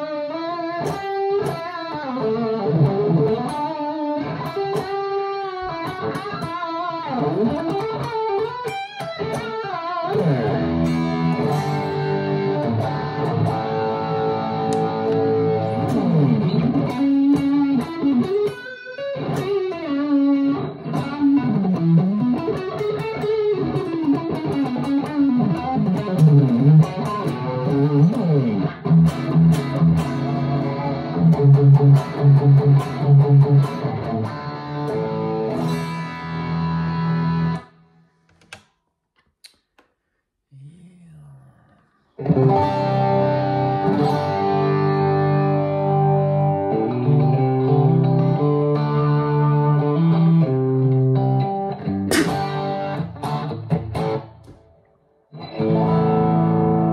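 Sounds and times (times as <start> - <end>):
electric guitar lead lines: 0.0 - 37.8, 42.2 - 56.9.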